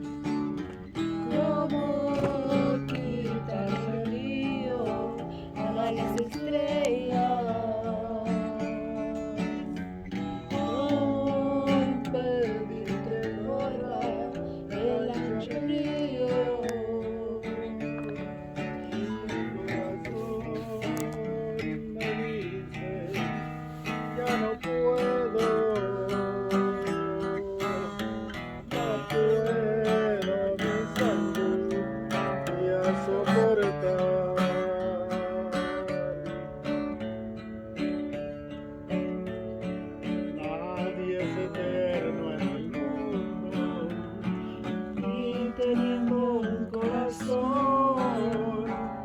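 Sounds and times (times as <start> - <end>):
acoustic guitars strumming: 0.0 - 49.0.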